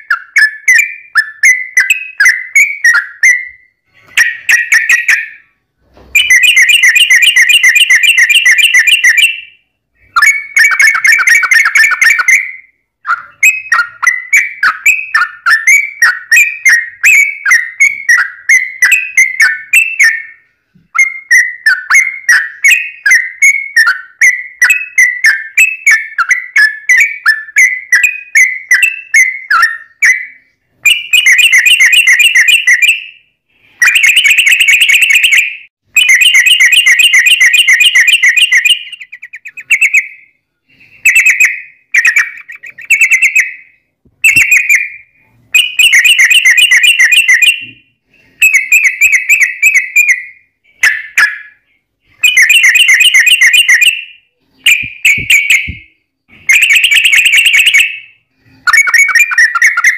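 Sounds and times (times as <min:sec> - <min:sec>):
bird singing rapid chattering phrases: 0:00.0 - 0:05.5, 0:06.2 - 0:20.4, 0:21.0 - 0:33.1, 0:33.8 - 0:40.3, 0:40.9 - 0:47.8, 0:52.2 - 0:58.0, 0:58.7 - 0:59.9.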